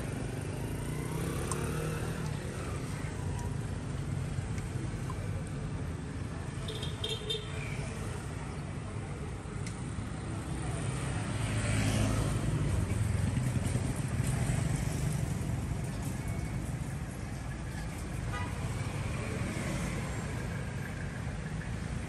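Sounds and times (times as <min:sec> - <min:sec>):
traffic engine rumble: 0:00.0 - 0:22.0.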